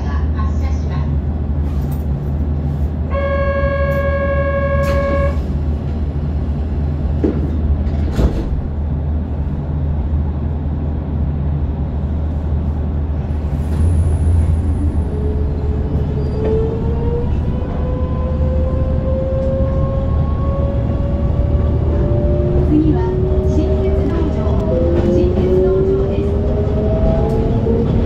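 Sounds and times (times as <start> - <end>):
train equipment humming: 0.0 - 28.0.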